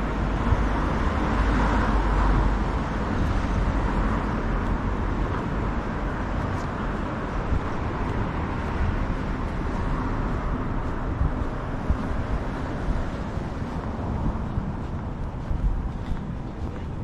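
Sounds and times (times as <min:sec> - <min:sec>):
road traffic rumble: 0:00.0 - 0:17.0
street noise: 0:00.0 - 0:17.0.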